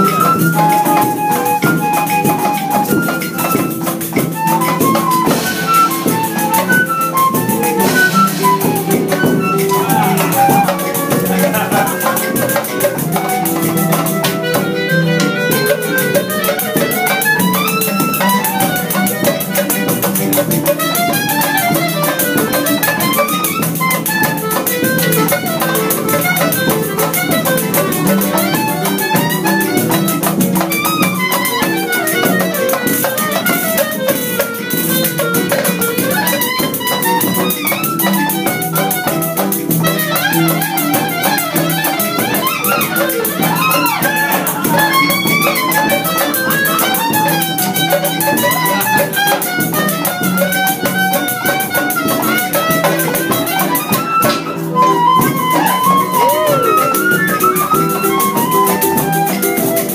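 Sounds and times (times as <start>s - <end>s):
lead melody with sliding notes: 0.0s - 59.9s
nylon-string guitar strumming: 0.0s - 59.9s.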